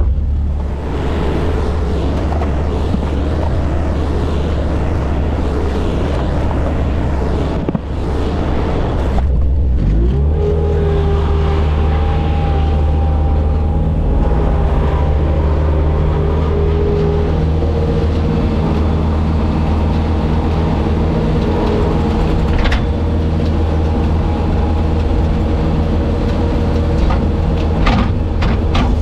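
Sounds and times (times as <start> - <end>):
diesel engine running and revving: 0.0 - 29.0.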